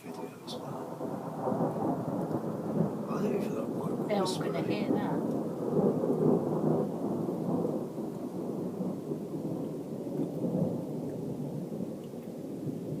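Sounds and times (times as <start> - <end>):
rolling thunder: 0.0 - 13.0.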